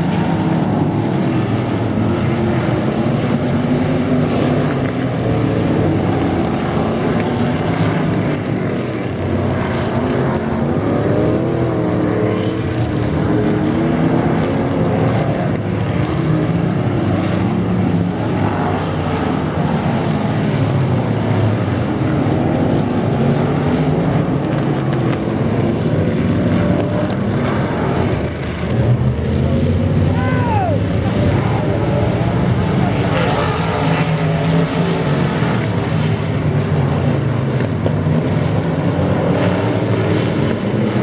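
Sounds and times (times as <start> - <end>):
racing car engines at speed: 0.0 - 41.0.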